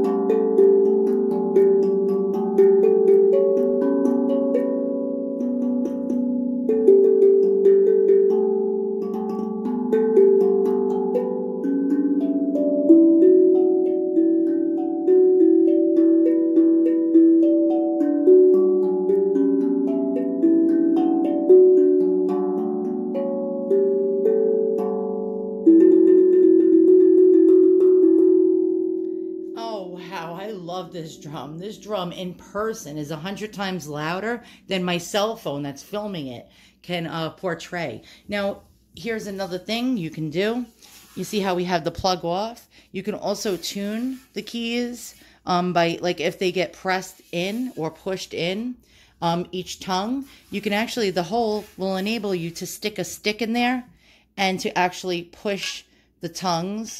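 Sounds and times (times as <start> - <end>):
steel tongue drum melody: 0.0 - 35.6, 38.3 - 53.0.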